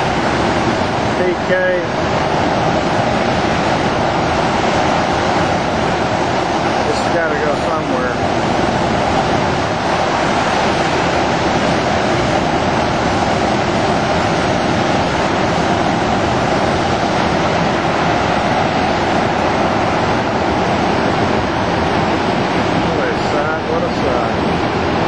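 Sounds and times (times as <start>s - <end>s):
floodwater roaring: 0.0s - 25.0s.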